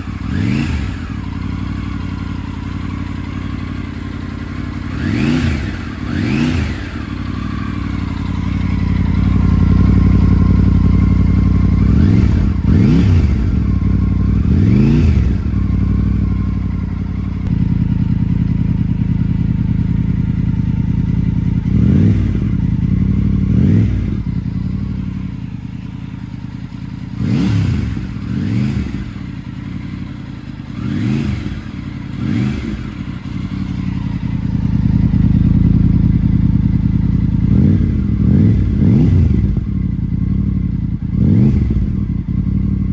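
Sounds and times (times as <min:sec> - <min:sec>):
motorcycle engine idling: 0:00.0 - 0:42.9
motorcycle throttle blips: 0:00.0 - 0:42.9.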